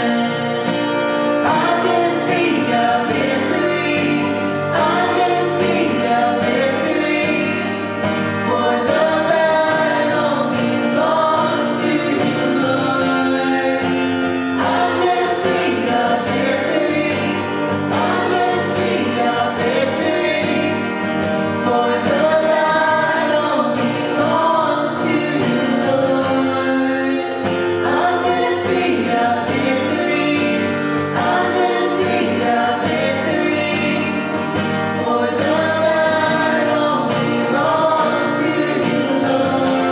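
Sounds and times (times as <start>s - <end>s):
group singing worship song: 0.0s - 39.9s
instrumental backing: 0.0s - 39.9s.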